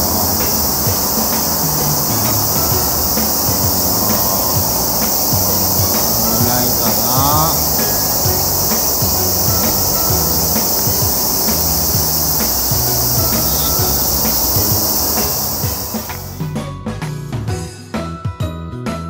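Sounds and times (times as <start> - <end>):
insects chirring: 0.0 - 16.4
quiet background music: 0.0 - 19.0.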